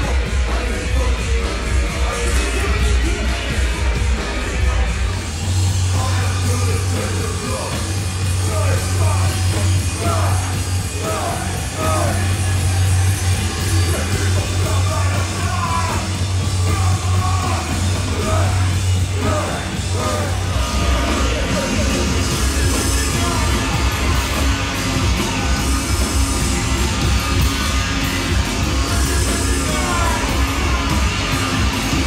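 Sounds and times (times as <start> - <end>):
deep bass drone: 0.0 - 32.0
live heavy band playing: 0.0 - 32.0
shouted vocals: 5.8 - 32.0.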